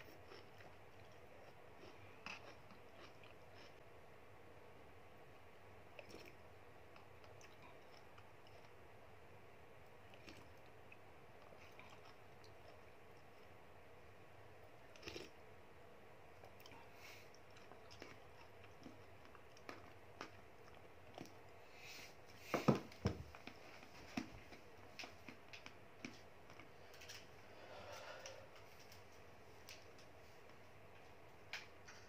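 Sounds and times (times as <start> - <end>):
soft chewing: 0.0 - 3.9, 5.8 - 8.9, 9.8 - 13.6, 14.6 - 15.4, 16.4 - 22.6, 23.2 - 31.7.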